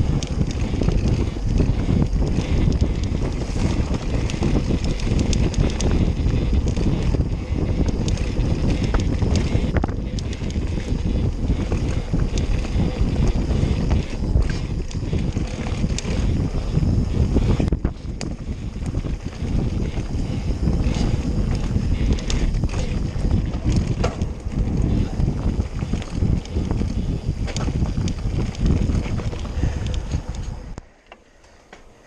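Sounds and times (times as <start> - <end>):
wind rushing over microphone: 0.0 - 31.0
bike rattling clicks: 0.0 - 32.0.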